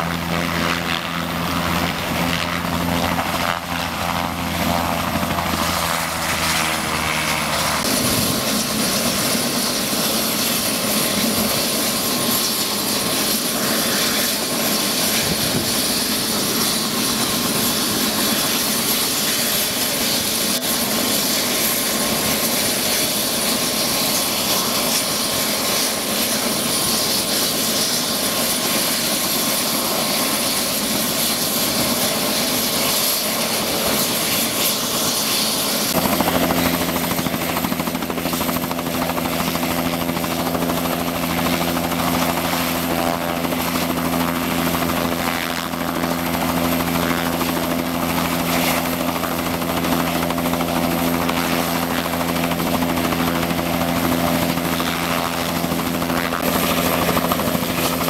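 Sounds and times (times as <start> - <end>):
helicopter turbine whine: 0.0 - 58.0.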